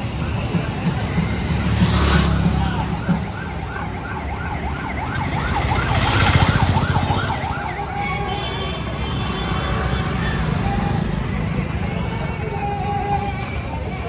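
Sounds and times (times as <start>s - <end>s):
siren yelping: 2.2s - 14.0s.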